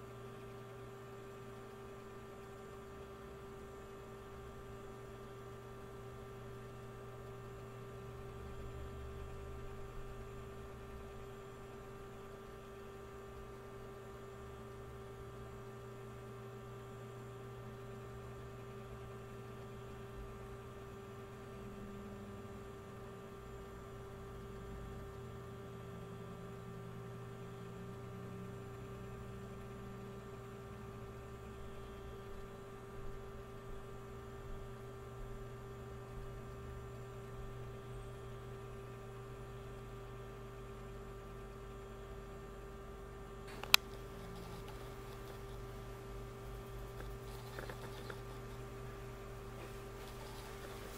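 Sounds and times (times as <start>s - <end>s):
steady hum: 0.0s - 50.9s.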